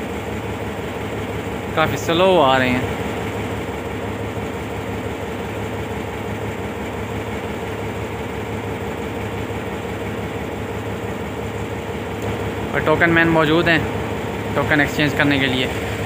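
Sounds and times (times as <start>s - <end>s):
diesel locomotive engine humming: 0.0s - 16.0s.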